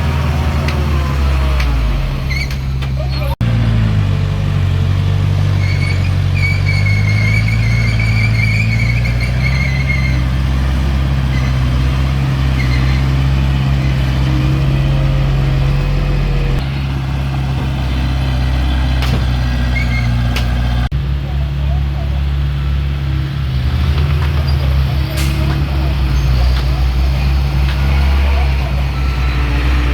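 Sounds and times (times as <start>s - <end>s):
heavy machine diesel engine: 0.0s - 29.9s.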